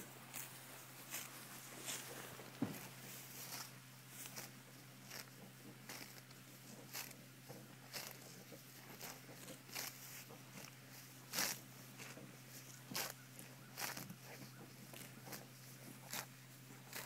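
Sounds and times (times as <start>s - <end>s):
cow tearing grass: 0.0s - 17.0s.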